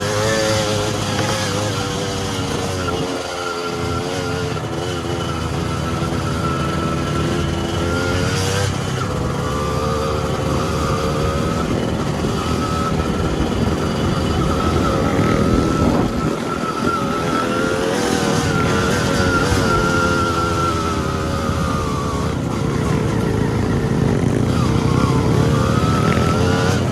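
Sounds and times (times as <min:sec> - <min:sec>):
dirt bike engine revving: 0:00.0 - 0:26.9.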